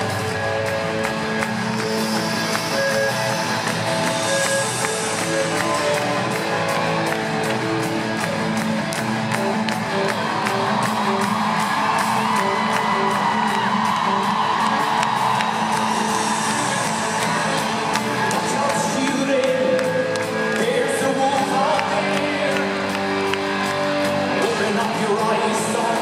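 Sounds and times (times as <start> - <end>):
audience cheering: 0.0 - 25.9
guitar: 0.0 - 26.0.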